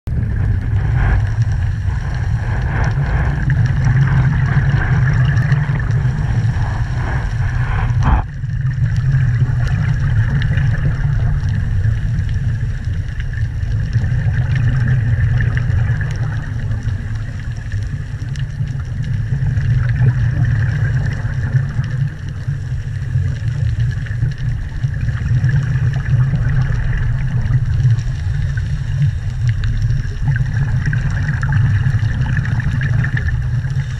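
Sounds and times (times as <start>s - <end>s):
underwater low rumble: 0.0s - 33.9s
faint crackling ticks: 0.4s - 33.9s.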